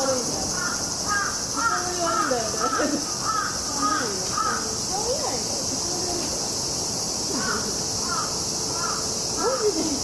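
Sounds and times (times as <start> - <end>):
cicadas droning: 0.0 - 10.0.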